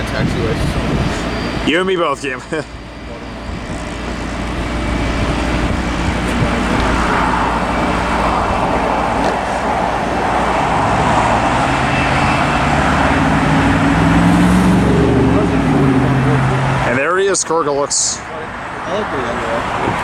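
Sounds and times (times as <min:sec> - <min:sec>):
aircraft engine noise: 0:00.0 - 0:20.0
low engine hum: 0:00.0 - 0:20.0
road traffic: 0:00.0 - 0:20.0.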